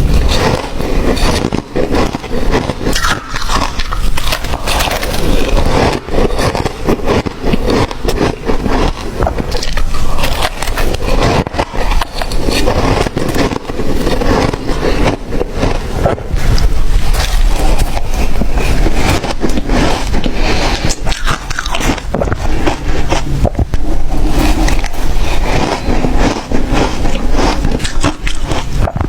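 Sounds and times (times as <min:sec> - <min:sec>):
ice being chewed: 0:00.0 - 0:29.0.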